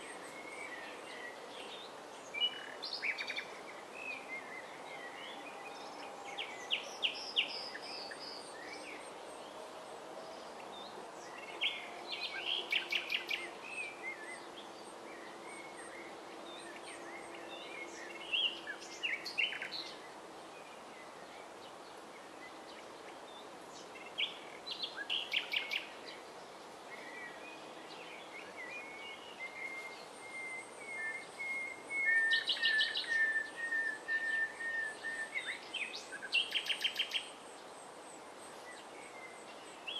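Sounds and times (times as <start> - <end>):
nightingale singing: 0.0 - 9.5, 10.3 - 39.9.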